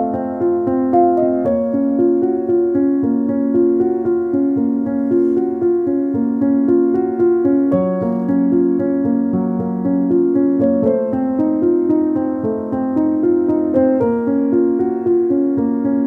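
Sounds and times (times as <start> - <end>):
keyboard playing repeating notes: 0.0 - 16.0.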